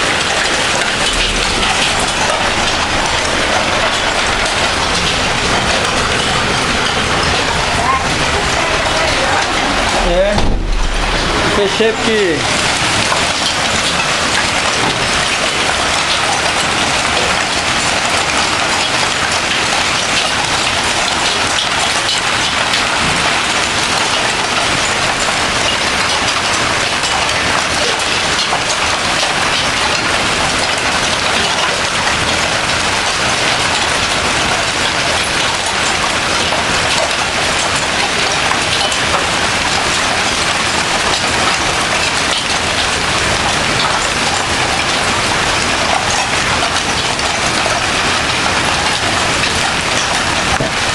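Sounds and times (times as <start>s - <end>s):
heavy rain and hail pelting: 0.0s - 50.9s.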